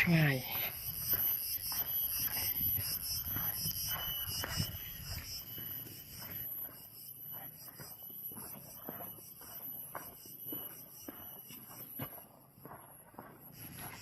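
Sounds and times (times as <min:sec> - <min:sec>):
crickets and cicadas droning: 0:00.0 - 0:14.0.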